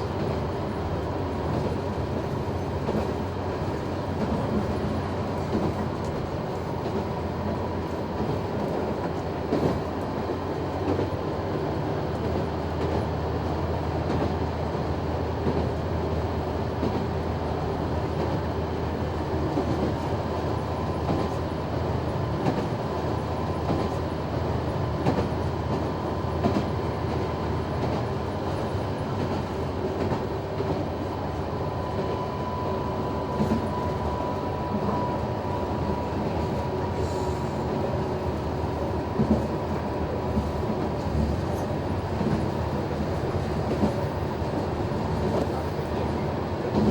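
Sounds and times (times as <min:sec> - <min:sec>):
railcar engine drone: 0:00.0 - 0:46.9.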